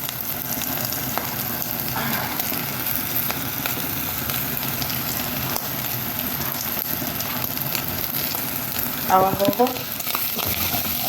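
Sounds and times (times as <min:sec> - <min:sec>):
beef sizzling in a pan: 0:00.0 - 0:11.0.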